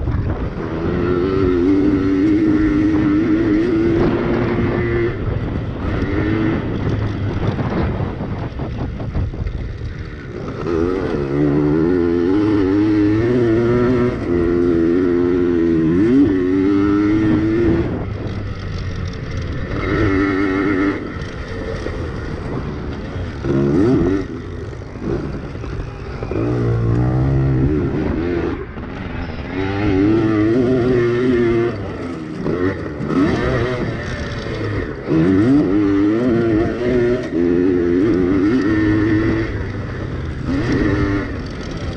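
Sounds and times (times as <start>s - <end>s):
two-stroke motorbike engines racing: 0.0s - 41.9s.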